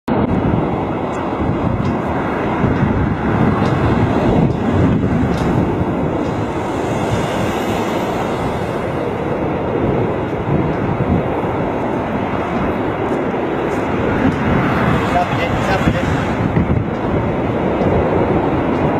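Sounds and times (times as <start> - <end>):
gusty wind on microphone: 0.1 - 18.9
jet engines running: 0.1 - 18.9.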